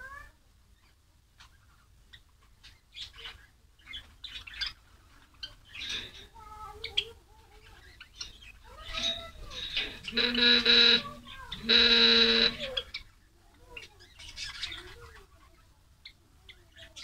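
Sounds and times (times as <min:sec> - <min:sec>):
sparrows chirping: 0:00.8 - 0:17.0.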